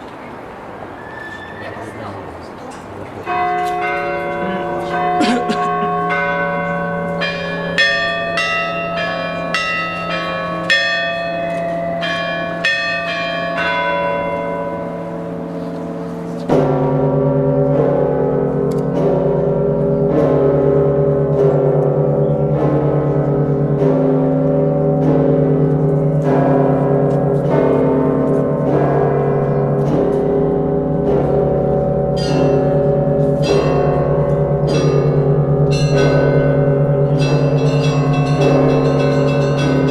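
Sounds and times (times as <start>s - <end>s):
low bells ringing: 1.0s - 39.9s
small church bells ringing: 2.8s - 39.9s.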